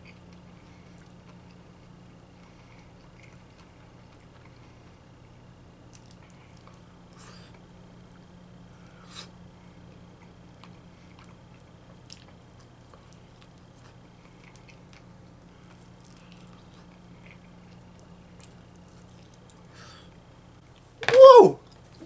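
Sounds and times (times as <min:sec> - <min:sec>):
person chewing wetly: 0:00.0 - 0:05.0, 0:05.8 - 0:08.3, 0:09.8 - 0:20.2
steady low hum: 0:00.0 - 0:22.0.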